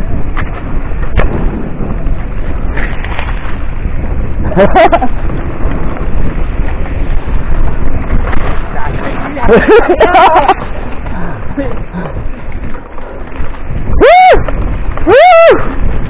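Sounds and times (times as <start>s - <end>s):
bike rolling on dirt trail: 0.0s - 16.0s
wind buffeting microphone: 0.0s - 16.0s.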